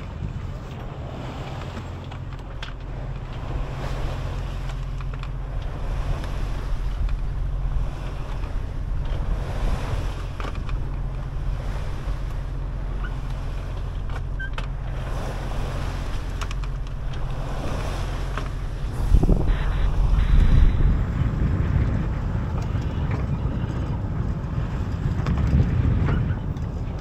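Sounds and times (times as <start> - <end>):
steady low rumble: 0.0 - 27.0
water washing past hull: 0.0 - 27.0
wind buffeting microphone: 0.0 - 27.0.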